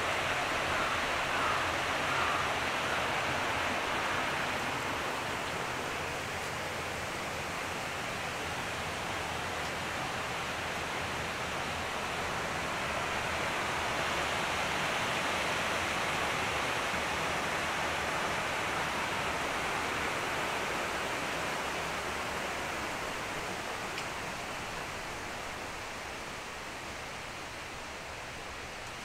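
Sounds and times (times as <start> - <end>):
flowing water rushing: 0.0 - 29.0.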